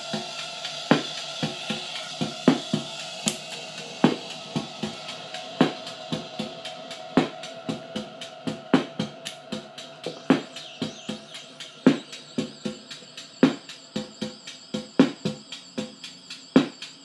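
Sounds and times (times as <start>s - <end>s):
drum beat: 0.0s - 16.8s
guitar pedal feedback drone: 0.0s - 17.0s.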